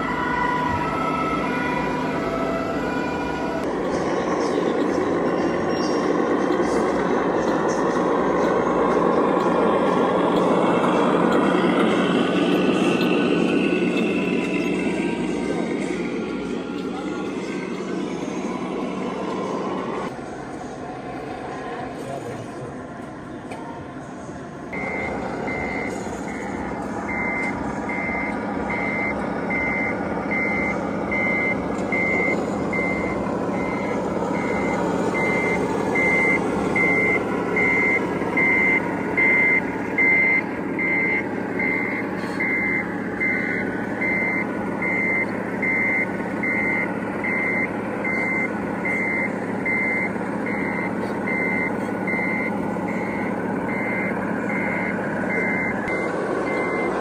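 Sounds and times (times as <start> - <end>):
truck reversing alarm beeping: 0.0 - 20.1, 24.7 - 57.0
engine rumble: 0.0 - 57.0.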